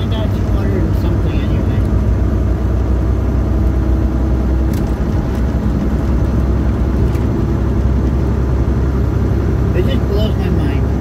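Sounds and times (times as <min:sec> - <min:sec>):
truck engine and tyres droning: 0:00.0 - 0:11.0.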